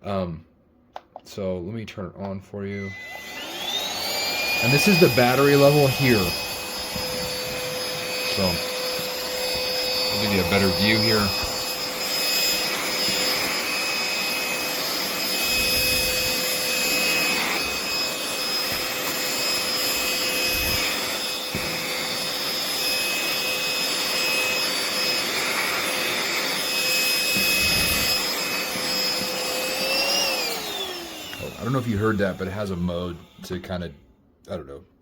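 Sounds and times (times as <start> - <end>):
handheld vacuum motor whining: 2.7 - 33.7.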